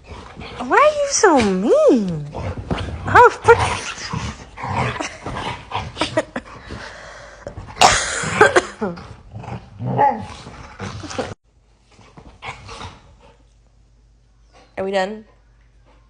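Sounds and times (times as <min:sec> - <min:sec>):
puppies growling and scuffling: 0:00.0 - 0:13.7.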